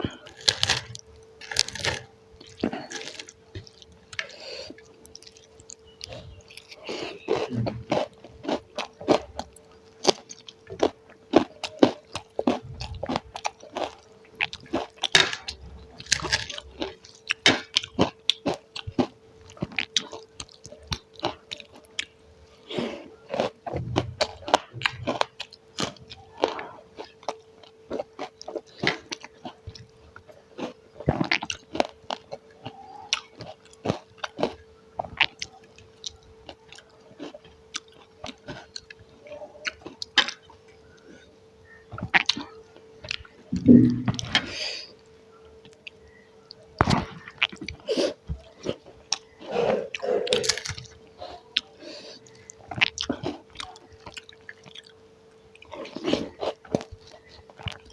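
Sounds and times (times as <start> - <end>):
faint steady hum: 0.0 - 57.9
person chewing food: 0.0 - 57.9.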